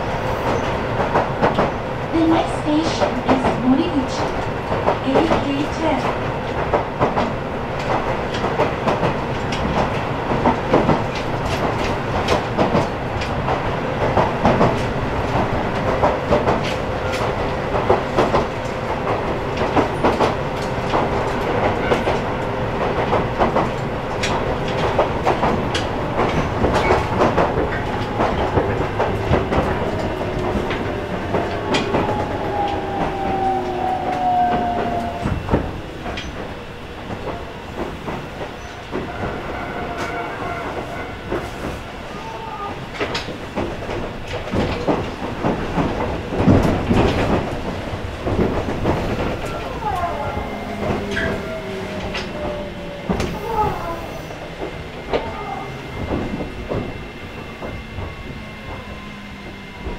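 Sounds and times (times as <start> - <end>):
rail joint clicks: 0.0 - 59.9
train wheels rumbling on rail: 0.0 - 59.9.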